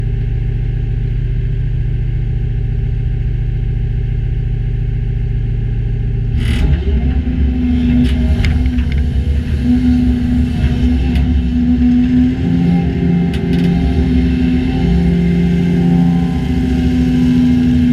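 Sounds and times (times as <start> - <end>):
diesel engines running: 0.0 - 17.9.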